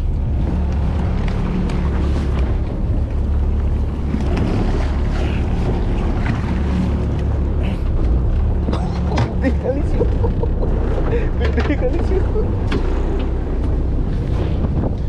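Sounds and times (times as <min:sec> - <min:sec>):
boat engine humming: 0:00.0 - 0:15.0
sea noise: 0:00.0 - 0:15.0
wind: 0:00.0 - 0:15.0.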